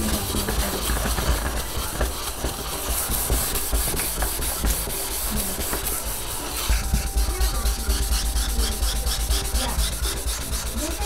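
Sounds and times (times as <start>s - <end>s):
sandpaper rubbing on wood: 0.0s - 11.0s.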